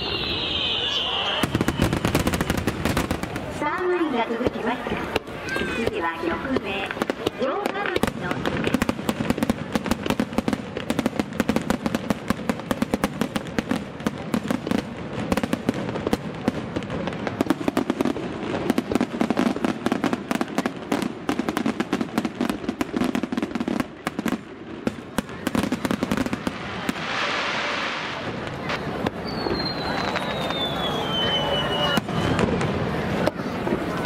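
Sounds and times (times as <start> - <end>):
fireworks crackling and banging: 0.0 - 34.0.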